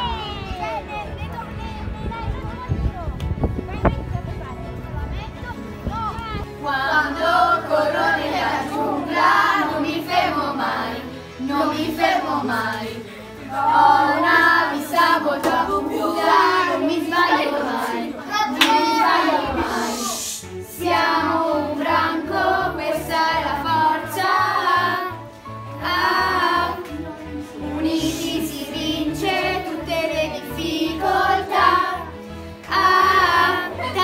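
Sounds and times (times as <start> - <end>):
musical accompaniment: 0.0 - 34.0
children singing together: 6.6 - 34.0.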